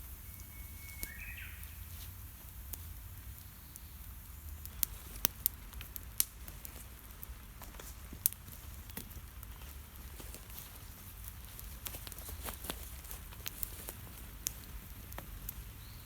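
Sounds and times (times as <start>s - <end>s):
campfire crackles and pops: 0.0s - 16.0s
fire low rumble: 0.0s - 16.0s.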